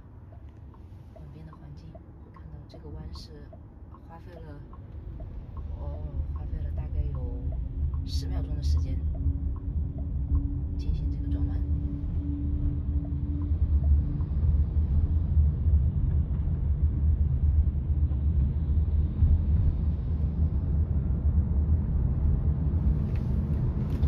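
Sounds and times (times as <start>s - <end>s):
road and tyre rumble in car: 0.0s - 24.0s.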